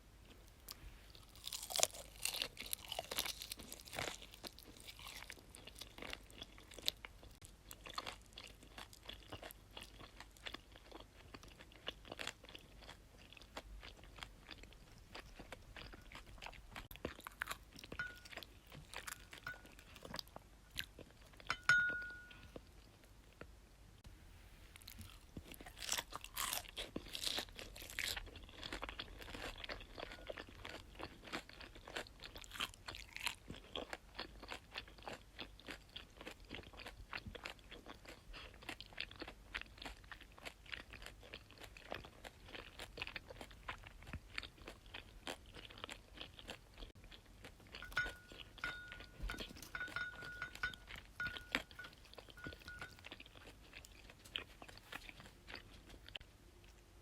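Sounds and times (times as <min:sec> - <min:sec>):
chewing crunchy food: 0:00.2 - 0:23.5, 0:24.8 - 0:57.0.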